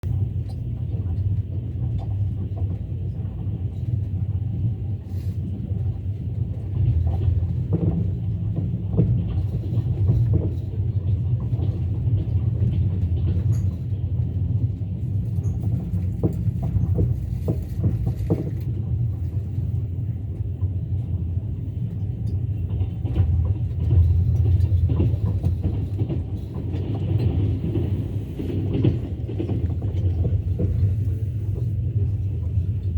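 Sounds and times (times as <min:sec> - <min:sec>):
train rumble: 0:00.0 - 0:32.9
wheels clattering over rail joints: 0:00.1 - 0:32.9.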